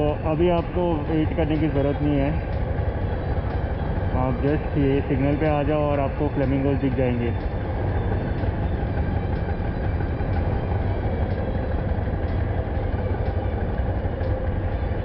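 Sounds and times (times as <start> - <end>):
engines idling rumble: 0.0 - 15.0.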